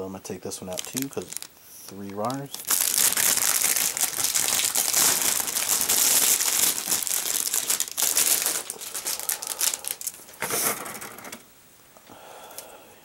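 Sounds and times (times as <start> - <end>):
plastic bag crinkling: 0.5 - 11.1.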